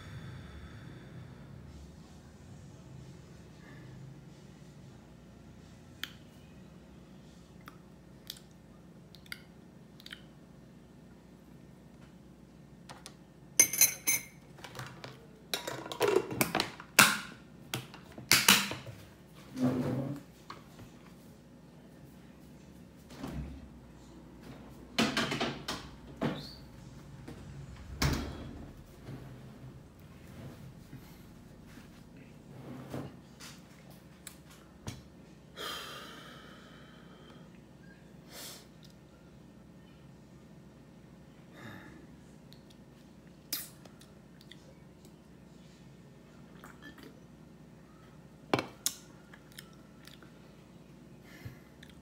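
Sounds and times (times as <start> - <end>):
faint room hum: 0.0 - 52.0.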